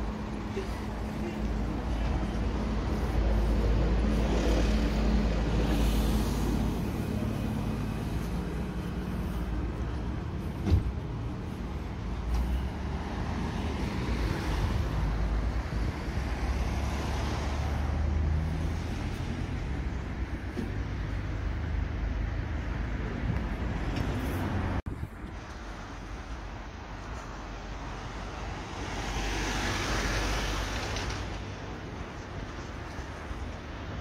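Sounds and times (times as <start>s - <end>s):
engine rumble: 0.0s - 34.0s
vehicles passing: 0.0s - 34.0s.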